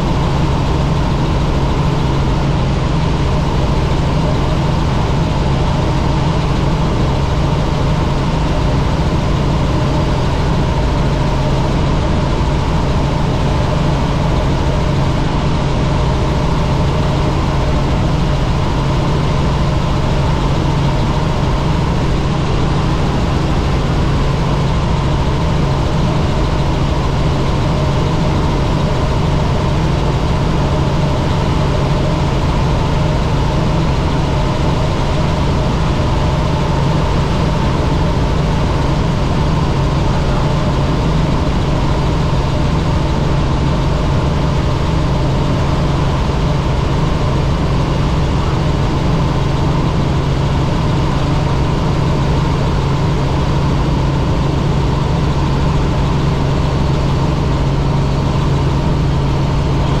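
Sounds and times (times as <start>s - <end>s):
helicopter rotor and turbine drone: 0.0s - 60.0s.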